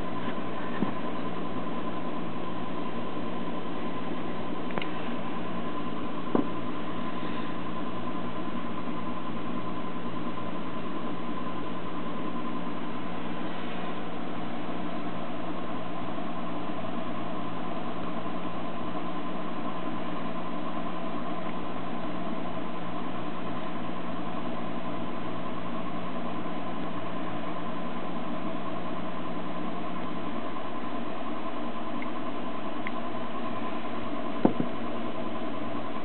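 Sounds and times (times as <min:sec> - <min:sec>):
machine hum with thin whine: 0:00.0 - 0:36.0.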